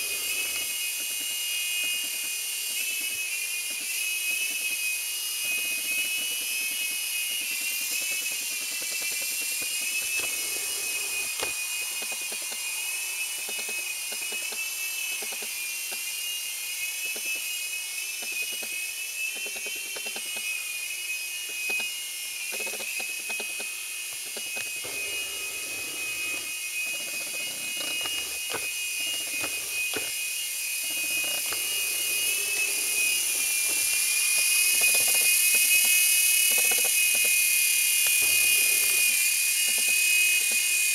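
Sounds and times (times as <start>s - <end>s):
rc helicopter rotor whine: 0.0s - 40.9s.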